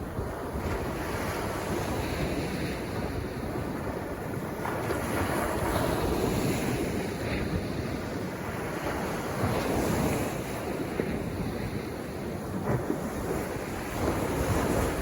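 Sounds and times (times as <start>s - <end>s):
sea waves breaking on shore: 0.0s - 15.0s
wind buffeting microphone: 0.0s - 15.0s.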